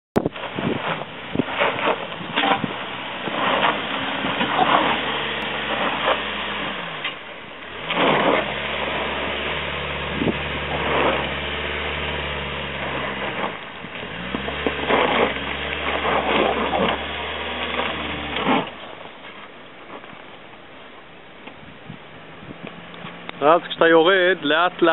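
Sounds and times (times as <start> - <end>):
car engine at low revs: 0.2 - 24.9.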